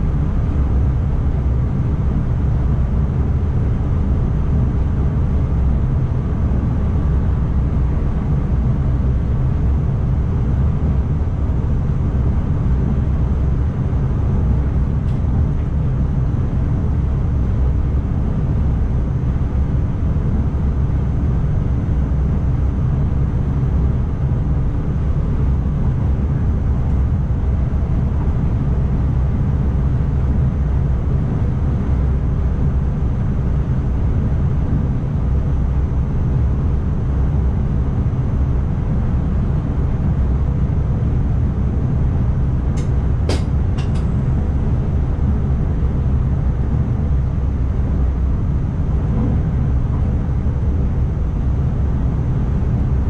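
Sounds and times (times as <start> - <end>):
electric train rumbling: 0.0 - 53.0.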